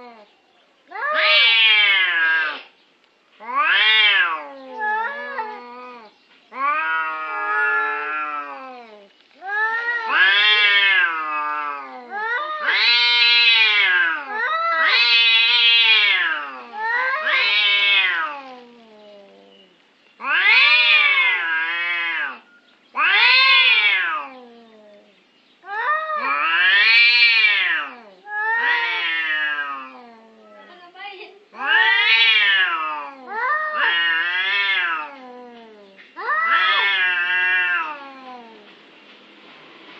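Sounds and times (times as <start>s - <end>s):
cats yowling: 0.9s - 2.8s, 3.4s - 30.8s, 31.5s - 38.8s.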